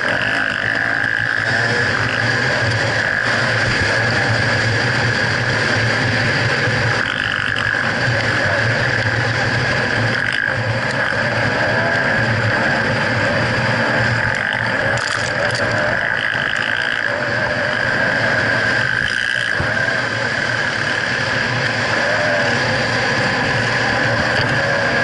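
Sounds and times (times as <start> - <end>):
two-stroke motorcycle engine running: 0.0 - 25.0.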